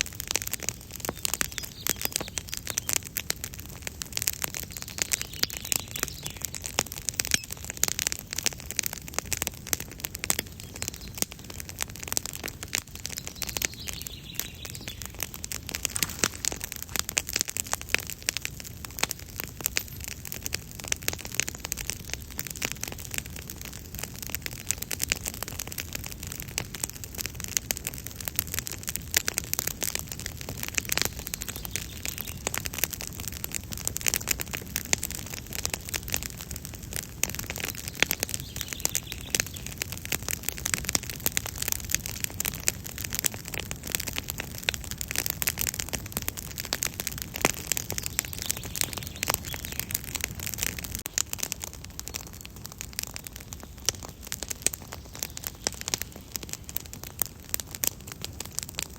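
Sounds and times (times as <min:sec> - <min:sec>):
campfire crackling and popping: 0:00.0 - 0:58.9
low rumble of flames: 0:00.0 - 0:58.9.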